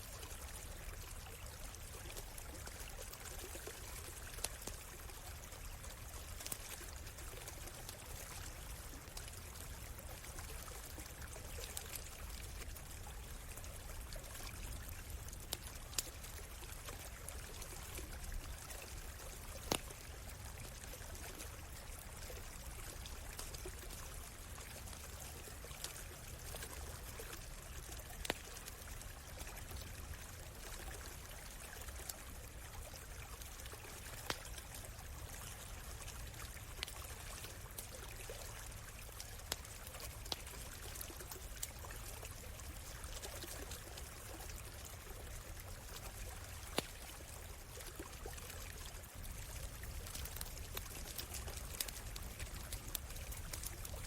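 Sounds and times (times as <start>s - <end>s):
stream trickling: 0.0s - 54.0s
campfire crackling and popping: 0.3s - 54.0s.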